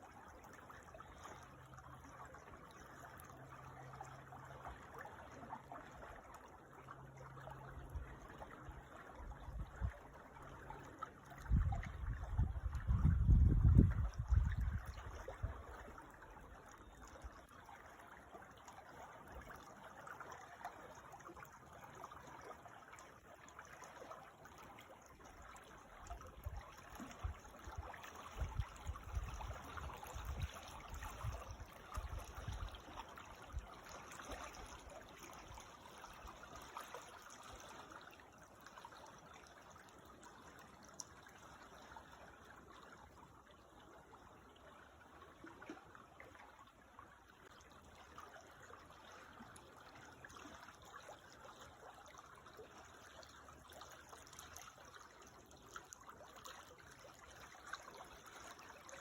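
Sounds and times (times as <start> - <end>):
creek water trickling: 0.0 - 59.0.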